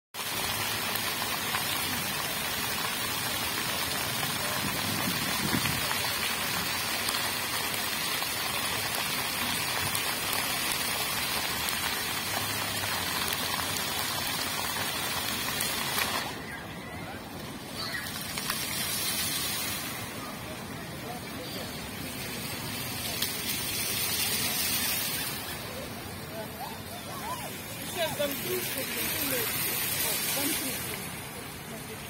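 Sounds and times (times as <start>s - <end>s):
fountain water splashing: 0.2s - 32.0s.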